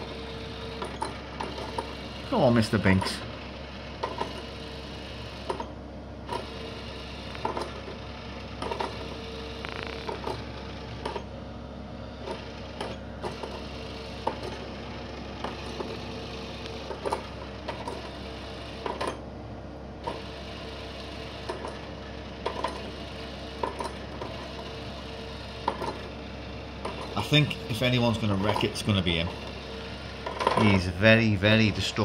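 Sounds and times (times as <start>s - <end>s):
small motor whirring: 0.0s - 11.3s, 12.2s - 19.2s, 20.0s - 32.0s.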